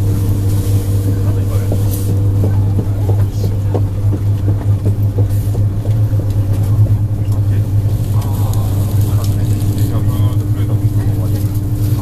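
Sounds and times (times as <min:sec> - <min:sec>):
electric train running rumble: 0:00.0 - 0:12.0.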